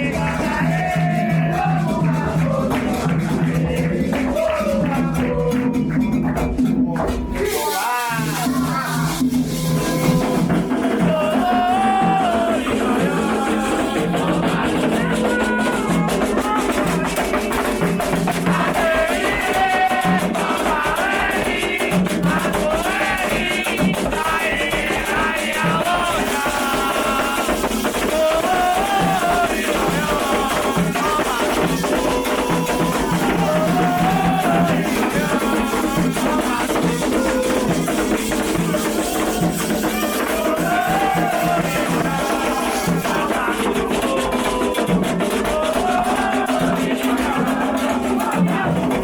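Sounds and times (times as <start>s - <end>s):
drums: 0.0s - 49.0s
voices singing a chant: 0.0s - 49.0s.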